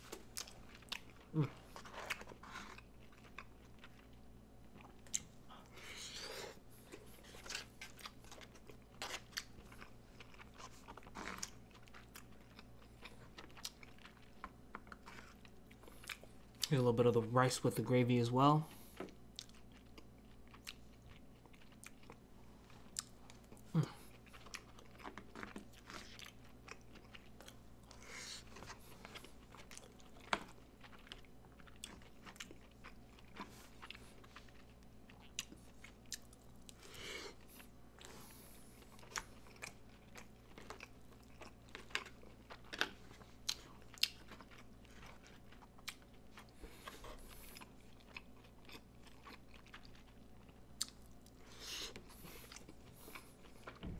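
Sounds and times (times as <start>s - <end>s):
chewing with wet smacks: 0.0s - 5.7s, 6.5s - 16.8s, 18.8s - 53.9s.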